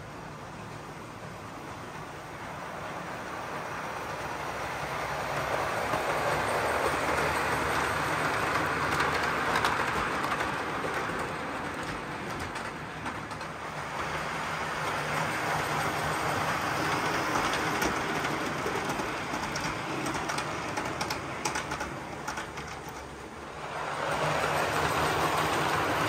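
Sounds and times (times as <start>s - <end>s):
model train wheels rattling on rail: 1.9s - 26.0s.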